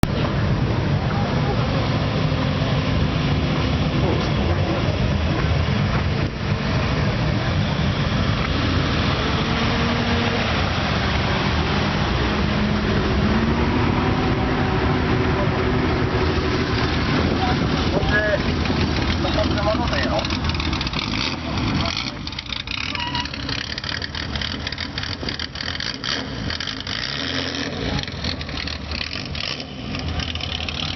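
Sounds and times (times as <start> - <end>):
deep exhaust rumble: 0.0 - 30.9.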